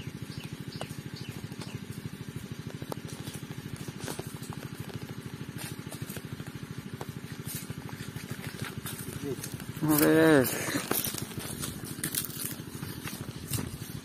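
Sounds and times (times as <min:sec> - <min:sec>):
engine chugging: 0:00.0 - 0:14.0.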